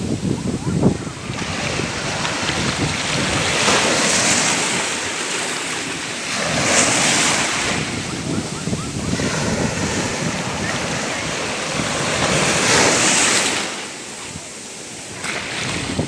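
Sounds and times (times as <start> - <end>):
ocean waves breaking: 0.0 - 16.0.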